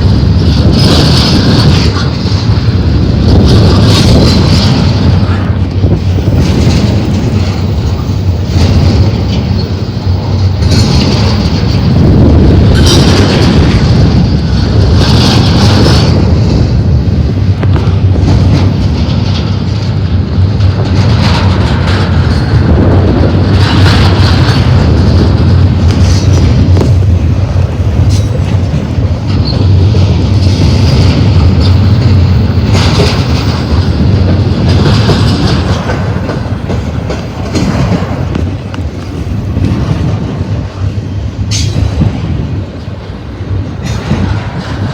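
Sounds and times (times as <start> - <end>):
freight cars clattering: 0.0 - 44.9
steel wheels rumbling on rails: 0.0 - 44.9.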